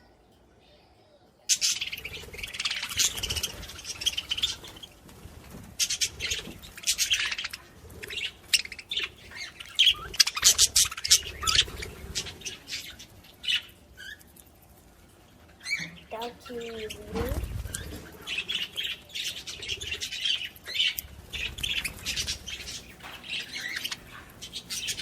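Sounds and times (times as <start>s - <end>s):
small birds chirping and squawking: 0.0s - 25.0s.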